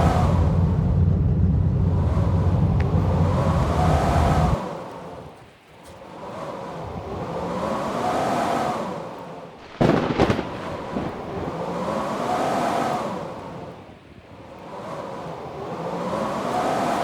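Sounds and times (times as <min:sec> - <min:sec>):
howling wind gusts: 0:00.0 - 0:17.0.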